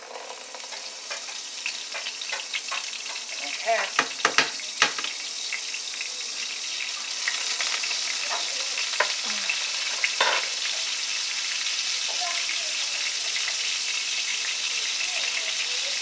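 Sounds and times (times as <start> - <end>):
butter sizzling in a pan: 0.0 - 16.0.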